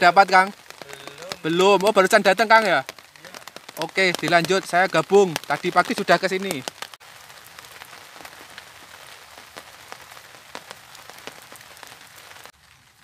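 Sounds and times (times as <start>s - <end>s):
raindrops ticking sharply: 0.0s - 13.0s
steady rain: 0.0s - 13.0s.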